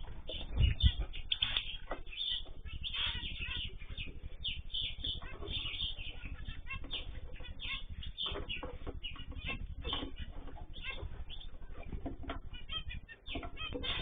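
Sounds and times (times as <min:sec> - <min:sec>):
cage birds chirping and calling: 0:00.0 - 0:14.0.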